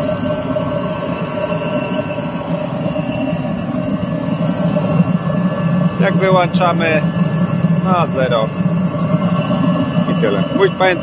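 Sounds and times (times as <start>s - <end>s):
oil-fired heater fan and burner blowing: 0.0s - 11.0s.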